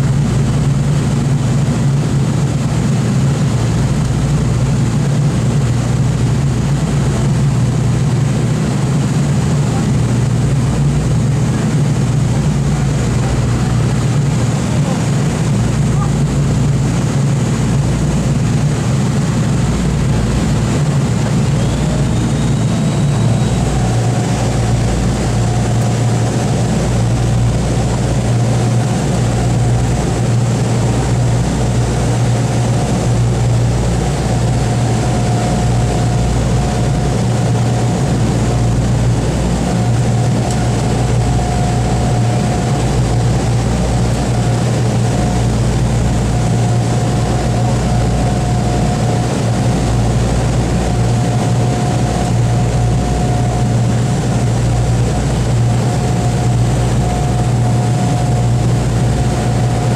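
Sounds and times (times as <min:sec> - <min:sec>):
faint steady whine: 0:00.0 - 0:59.9
piston engines rumbling: 0:00.0 - 0:59.9.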